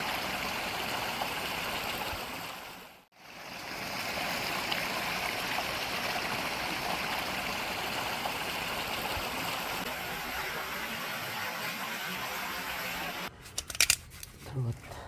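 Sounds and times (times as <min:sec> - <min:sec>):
stream running: 0:00.0 - 0:13.3.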